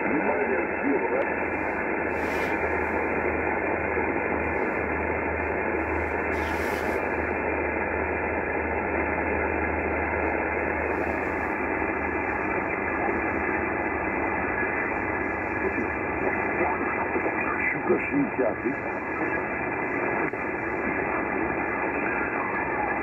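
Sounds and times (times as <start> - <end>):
low steady hum: 0.0 - 23.0
radio static hiss: 0.0 - 23.0.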